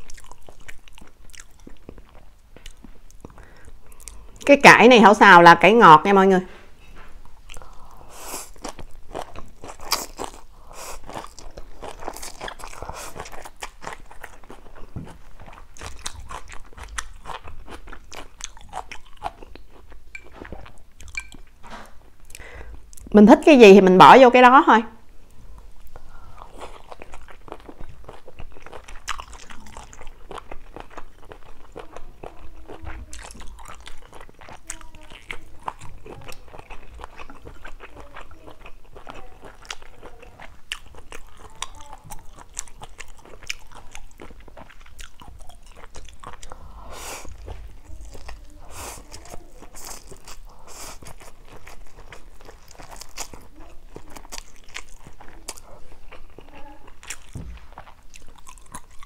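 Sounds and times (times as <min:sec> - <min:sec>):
person chewing noodles: 0:00.0 - 0:04.5, 0:07.2 - 0:23.1, 0:25.5 - 0:59.0.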